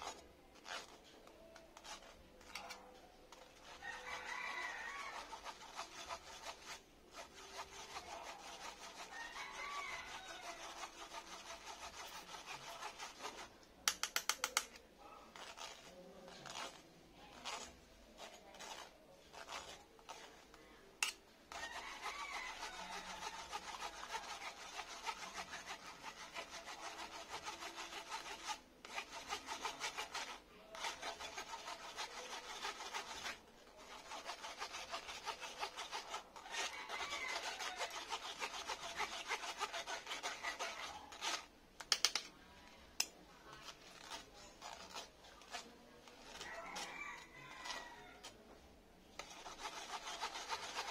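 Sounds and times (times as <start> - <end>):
metal spoon scraping mesh sieve: 0.0 - 14.7, 15.3 - 42.3, 43.0 - 48.4, 49.1 - 50.9.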